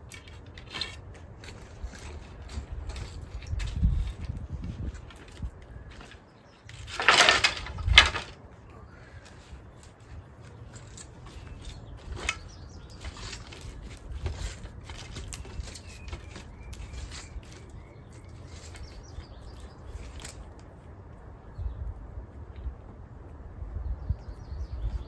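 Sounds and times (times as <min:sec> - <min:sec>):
clicks and rustles of handling: 0:00.0 - 0:21.3.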